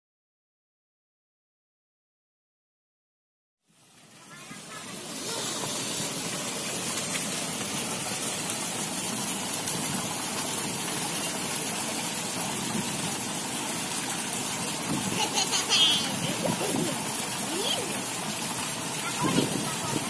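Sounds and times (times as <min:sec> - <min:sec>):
fountain water pouring into pool: 0:03.6 - 0:20.0.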